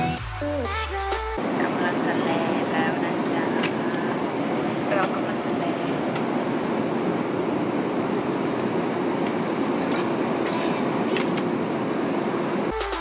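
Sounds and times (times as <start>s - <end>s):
airliner cabin hum: 1.4s - 13.0s.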